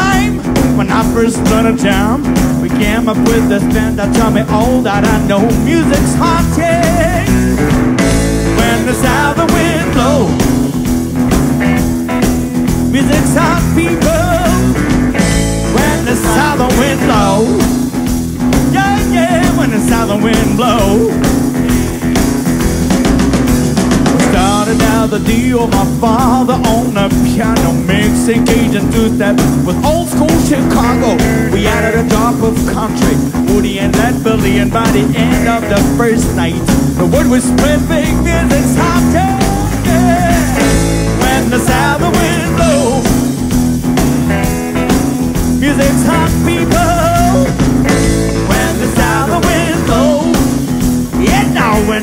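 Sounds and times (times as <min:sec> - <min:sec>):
bass guitar: 0:00.0 - 0:52.0
electric guitar: 0:00.0 - 0:52.0
steady drum beat: 0:00.0 - 0:52.0.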